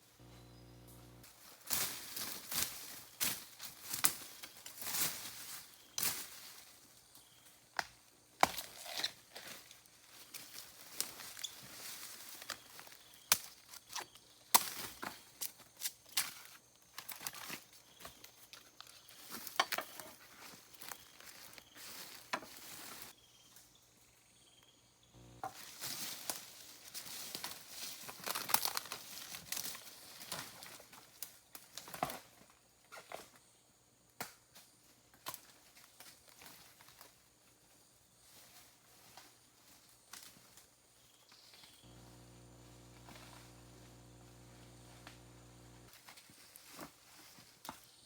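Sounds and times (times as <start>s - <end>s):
leaves and twigs crackling: 0.2s - 23.8s, 25.2s - 33.4s, 35.2s - 48.0s.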